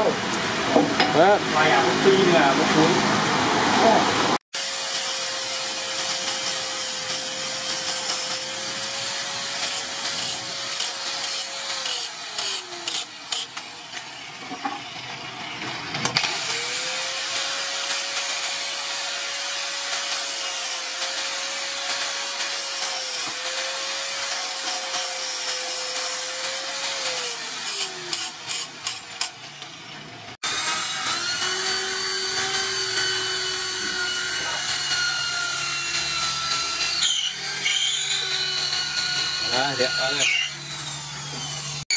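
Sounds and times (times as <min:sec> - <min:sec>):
electric drill running: 0:04.6 - 0:14.3, 0:15.4 - 0:29.6, 0:30.4 - 0:41.9
angle grinder grinding steel: 0:04.6 - 0:41.9.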